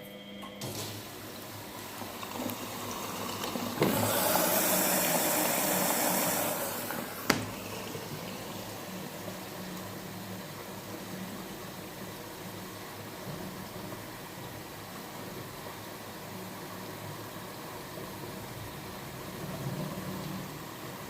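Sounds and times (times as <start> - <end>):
water rushing into washing machine: 0.6 - 21.0.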